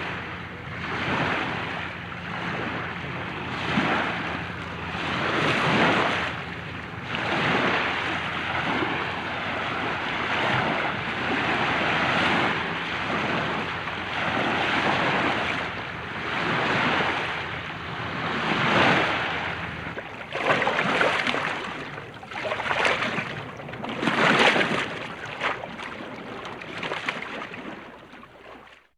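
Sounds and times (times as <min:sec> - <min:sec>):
ocean waves washing in: 0:00.0 - 0:28.8
sharp water splashes: 0:03.6 - 0:28.9.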